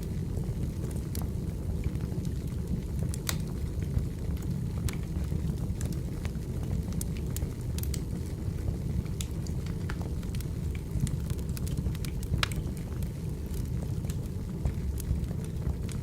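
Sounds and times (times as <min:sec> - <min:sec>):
campfire flames rumbling: 0:00.0 - 0:16.0.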